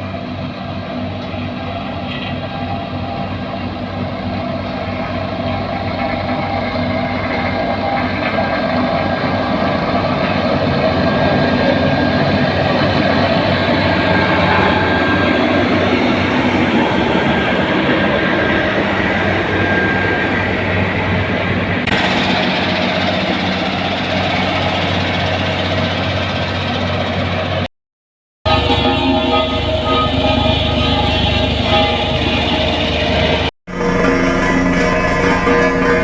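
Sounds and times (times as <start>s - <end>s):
heavy diesel engine running: 0.0s - 27.7s, 28.5s - 36.0s.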